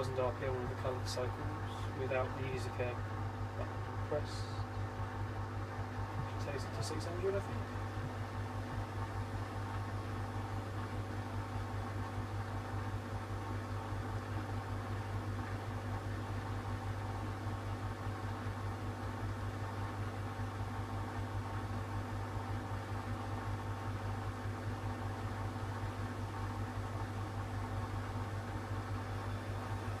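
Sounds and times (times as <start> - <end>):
washing machine spinning: 0.0 - 30.0.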